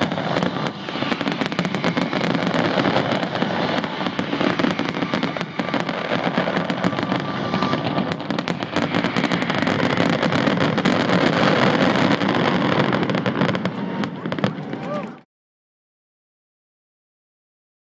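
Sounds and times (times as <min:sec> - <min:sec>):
fireworks barrage: 0:00.0 - 0:15.2.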